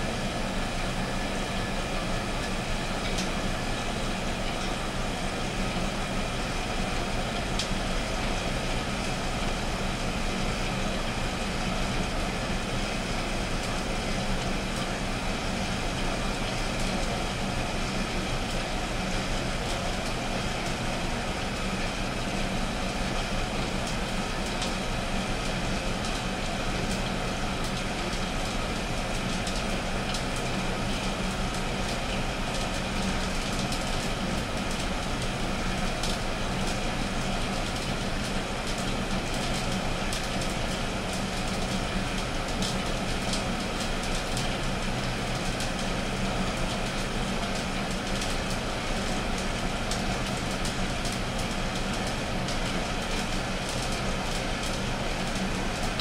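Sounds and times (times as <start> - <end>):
coffee roaster drum motor whirring: 0.0 - 56.0.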